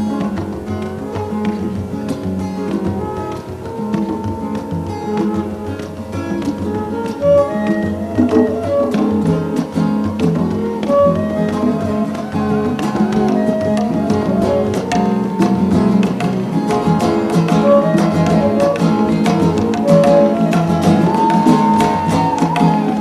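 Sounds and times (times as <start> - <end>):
drum and hand-drum beat: 0.0 - 23.0
guitar melody: 0.0 - 23.0.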